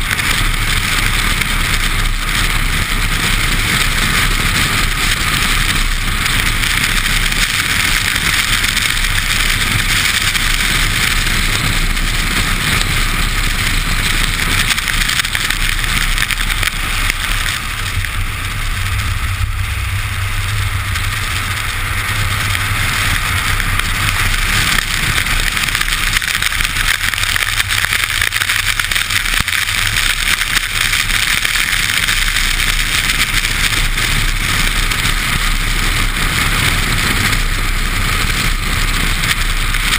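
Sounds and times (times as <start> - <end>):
car engine running low: 0.0 - 39.9
tyre spray hiss on wet road: 0.0 - 39.9
wind on microphone: 0.0 - 39.9.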